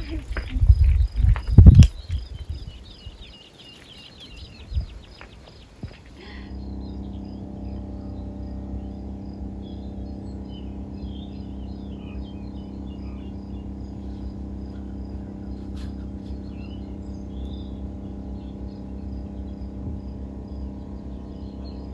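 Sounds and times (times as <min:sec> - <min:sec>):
birds chirping: 0:00.0 - 0:21.9
insects chirping: 0:00.0 - 0:21.9
steady low hum: 0:00.0 - 0:21.9.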